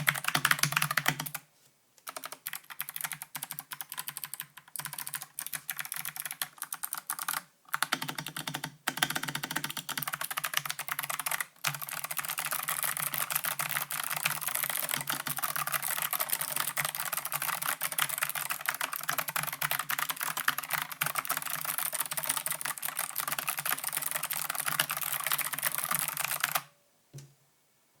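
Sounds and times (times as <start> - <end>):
fast clicky keyboard typing: 0.0 - 1.4, 2.0 - 26.7.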